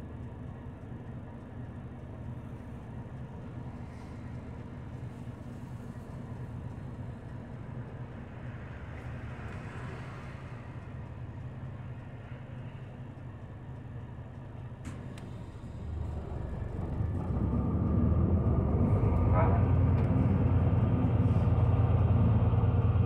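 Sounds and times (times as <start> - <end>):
bus engine hum: 0.0 - 23.0
road noise: 0.0 - 23.0.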